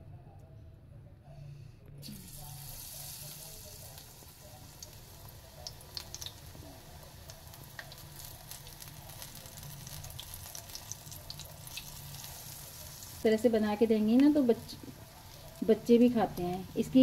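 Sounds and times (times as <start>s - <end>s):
fritters sizzling in hot oil: 2.0s - 17.0s.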